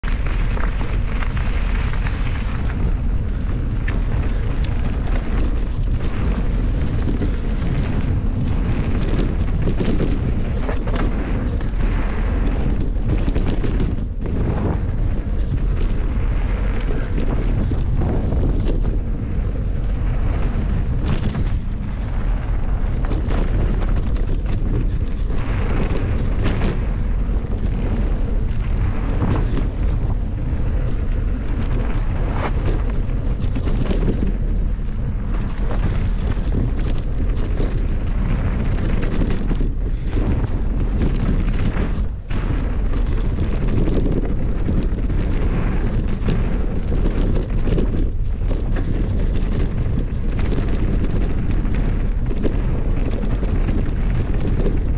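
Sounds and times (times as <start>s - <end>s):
bike rattles and knocks: 0.0s - 54.9s
tyres rolling over dirt: 0.0s - 54.9s
wind rumble on microphone: 0.0s - 54.9s.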